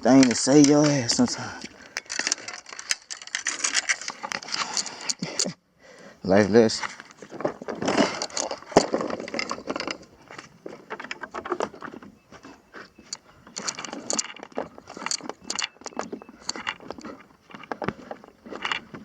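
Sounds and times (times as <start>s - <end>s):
gear clattering and jingling: 0.0s - 5.5s, 6.8s - 19.0s.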